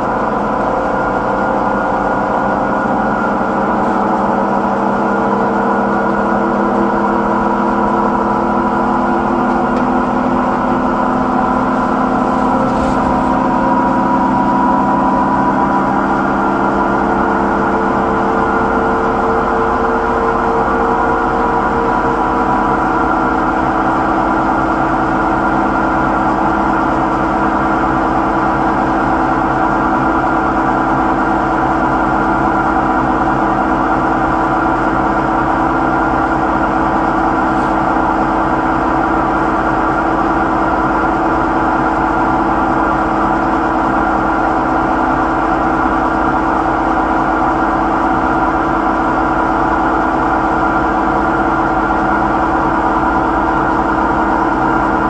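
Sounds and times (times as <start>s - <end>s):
washing machine spin drone: 0.0s - 55.0s.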